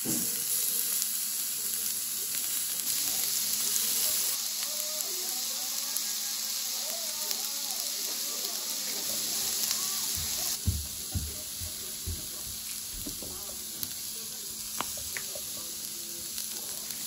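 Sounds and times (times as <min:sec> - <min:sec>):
steak sizzling on a griddle: 0:00.0 - 0:17.0.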